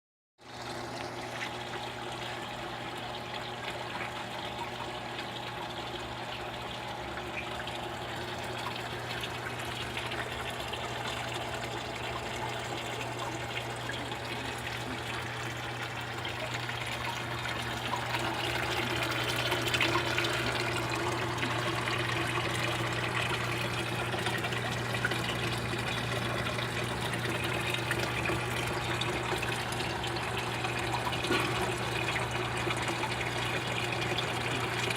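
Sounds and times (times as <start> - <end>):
aquarium water trickling: 0.4 - 34.9.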